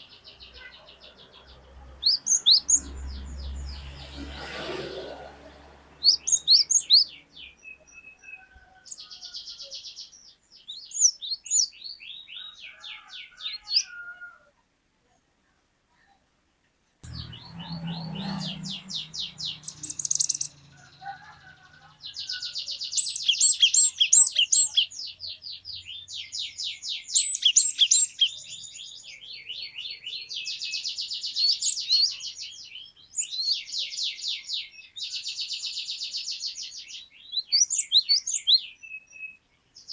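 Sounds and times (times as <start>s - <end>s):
bird singing fast trills: 0.0s - 4.3s, 5.1s - 12.6s, 17.0s - 21.0s, 22.0s - 39.9s.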